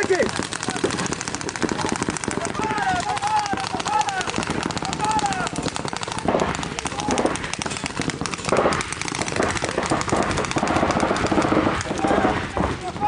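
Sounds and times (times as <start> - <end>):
players shouting: 0.0 - 7.6, 9.2 - 13.0
paintball markers firing: 0.0 - 12.9.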